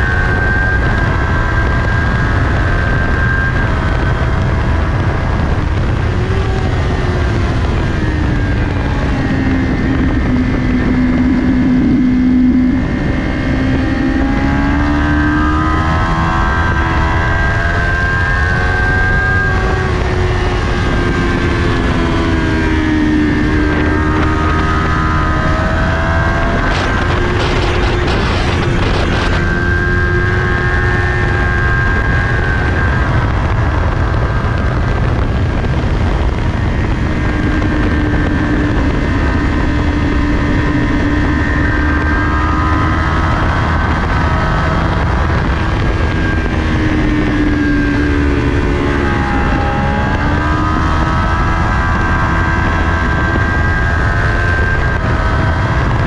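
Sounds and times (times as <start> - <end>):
motorcycle engine racing: 0.0 - 56.0
wind rush: 0.0 - 56.0.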